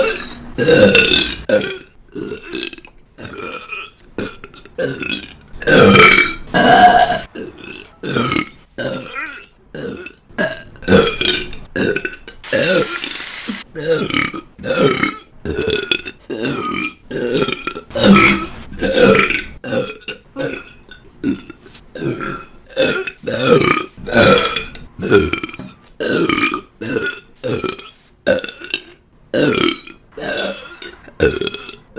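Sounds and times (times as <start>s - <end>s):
woman burping: 0.0s - 13.0s, 13.7s - 31.9s.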